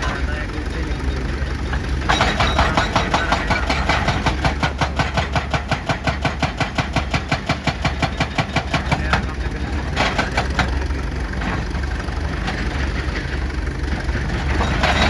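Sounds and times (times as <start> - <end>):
diesel engine hum: 0.0 - 15.0
hydraulic breaker hammering rock: 0.0 - 15.0.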